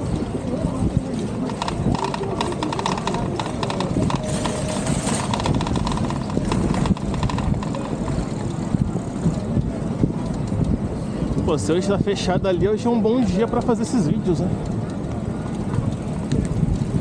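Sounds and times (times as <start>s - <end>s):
bicycle rattling clicks and knocks: 0.0s - 17.0s
wind and road noise: 0.0s - 17.0s.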